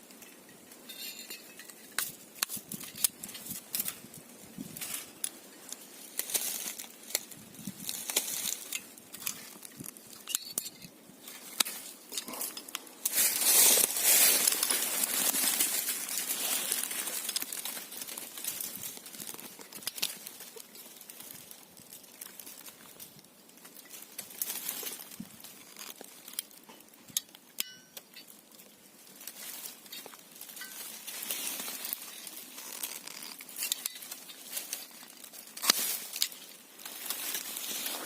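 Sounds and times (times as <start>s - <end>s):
rustling of branches and leaves: 0.0s - 38.0s.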